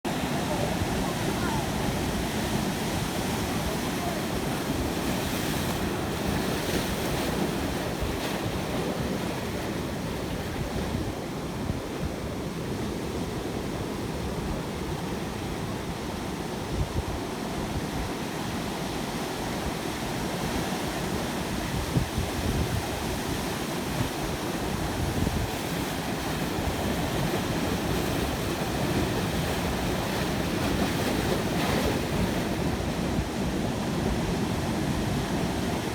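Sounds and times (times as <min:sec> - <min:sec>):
waves breaking and washing: 0:00.1 - 0:35.9.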